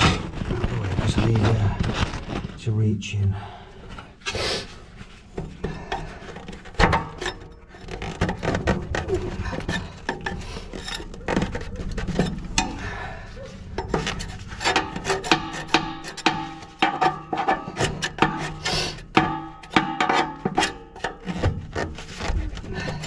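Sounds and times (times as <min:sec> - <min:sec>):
metal stove parts clanking: 0:03.7 - 0:23.0.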